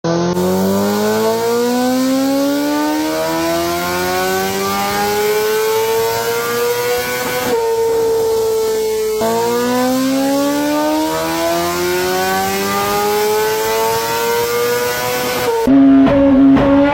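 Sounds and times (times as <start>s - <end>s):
engine at steady pitch: 0.0s - 16.9s
motorcycle engine accelerating: 0.0s - 16.9s.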